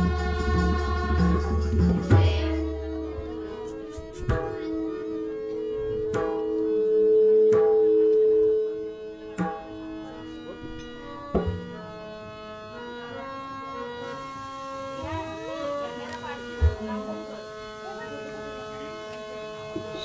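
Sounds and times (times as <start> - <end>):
harmonium playing: 2.3 - 20.0.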